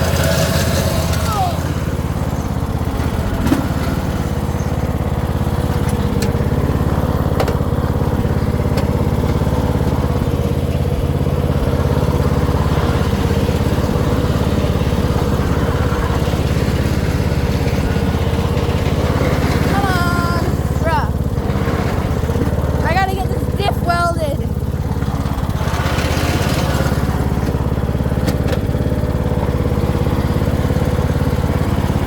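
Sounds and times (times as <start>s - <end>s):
riding mower engine running: 0.0s - 32.0s.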